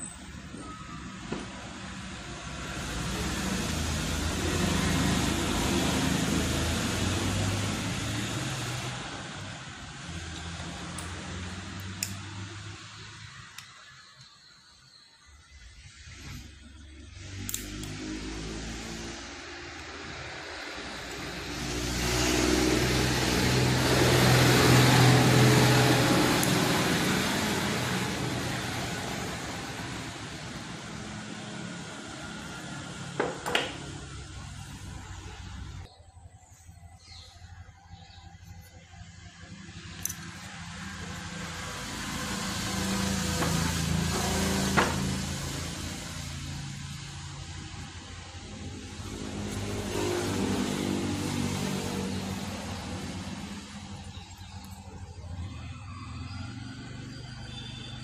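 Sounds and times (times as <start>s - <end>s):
vehicle engine hum: 0.0s - 13.9s, 15.4s - 58.0s.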